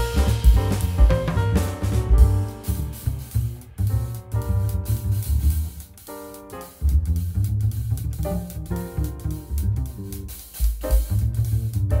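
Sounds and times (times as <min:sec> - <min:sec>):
instrumental music with bass and drums: 0:00.0 - 0:12.0.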